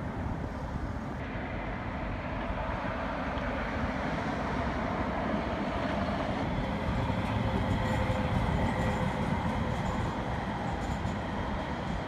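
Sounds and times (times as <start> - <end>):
city traffic: 0.0 - 12.0
streetcar rumbling on track: 0.0 - 12.0.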